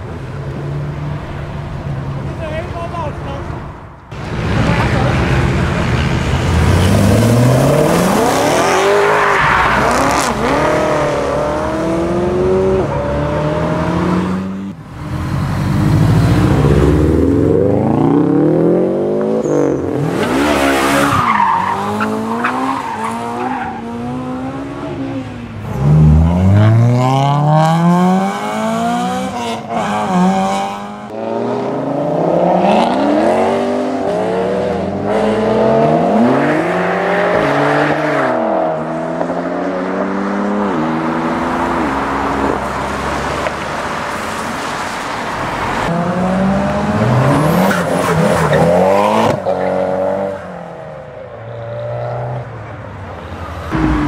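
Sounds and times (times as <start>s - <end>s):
car engines revving hard: 4.1s - 54.0s.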